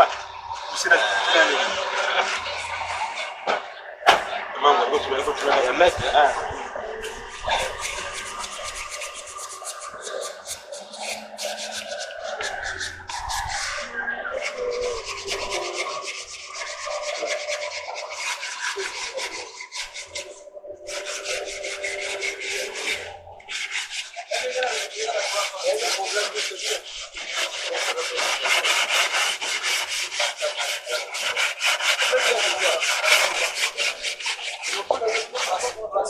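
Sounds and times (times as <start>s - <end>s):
hand sanding metal: 4.9s - 36.0s.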